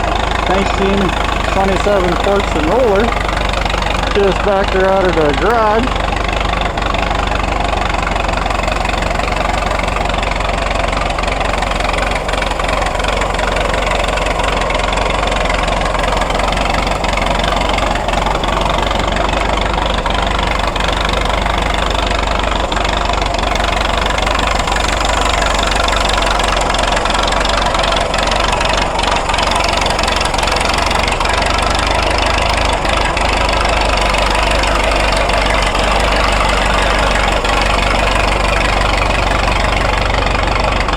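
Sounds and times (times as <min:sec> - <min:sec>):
road roller engine running: 0:00.0 - 0:40.9.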